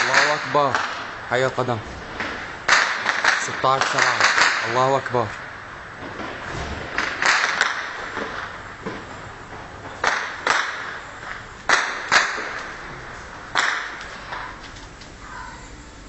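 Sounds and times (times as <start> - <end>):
gunshots with echo: 0.0 - 14.0.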